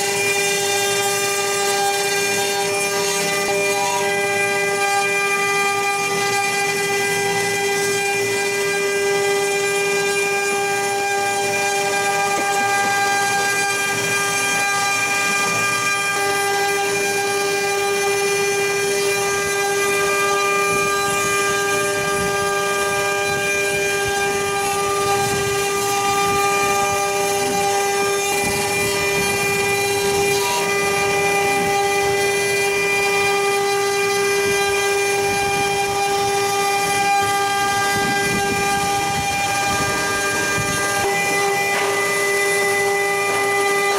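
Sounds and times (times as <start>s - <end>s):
router bits cutting: 0.0s - 43.9s
spindle motors whining: 0.0s - 43.9s.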